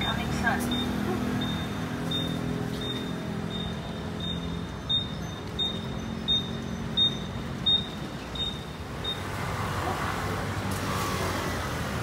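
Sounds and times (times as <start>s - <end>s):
traffic engine hum: 0.0s - 12.0s
vehicle passing: 0.0s - 12.0s.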